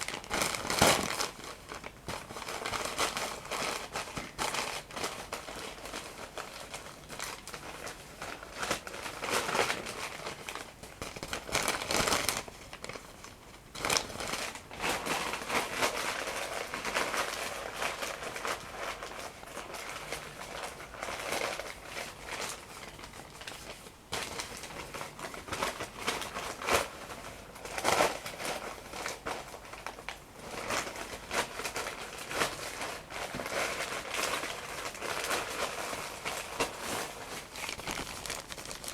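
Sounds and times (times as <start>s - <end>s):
paper crinkling: 0.0s - 38.9s.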